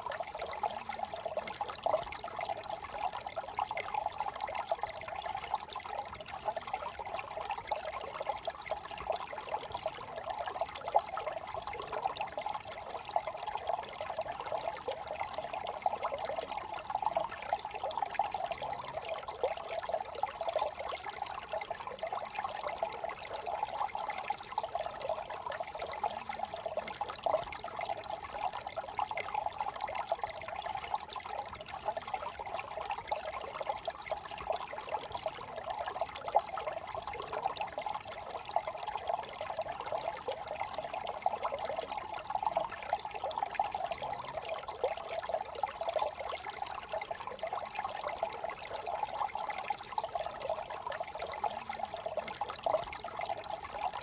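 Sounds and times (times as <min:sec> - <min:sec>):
brook trickling over stones: 0:00.0 - 0:54.0.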